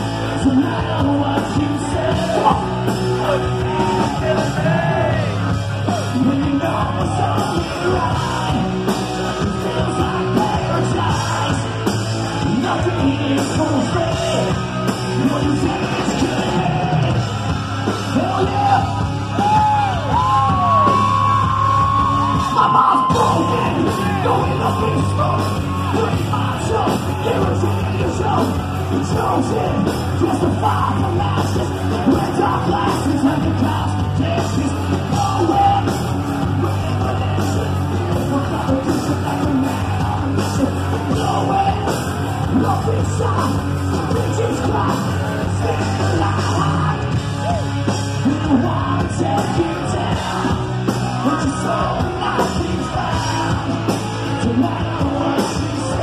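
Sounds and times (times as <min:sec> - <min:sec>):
driving drums: 0:00.0 - 0:56.0
live rock band playing: 0:00.0 - 0:56.0
person yelling and singing: 0:00.2 - 0:11.8, 0:18.1 - 0:56.0.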